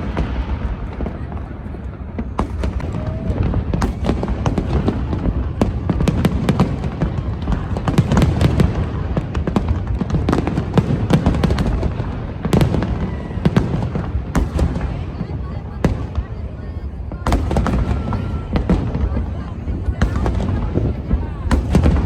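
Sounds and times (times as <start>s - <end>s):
fireworks cracks and pops: 0.0s - 22.0s.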